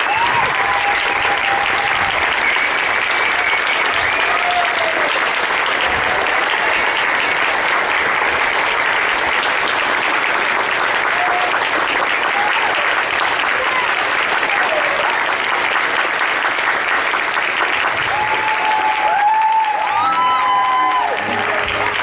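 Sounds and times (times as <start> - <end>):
audience applauding: 0.0 - 22.0
people cheering: 0.0 - 22.0.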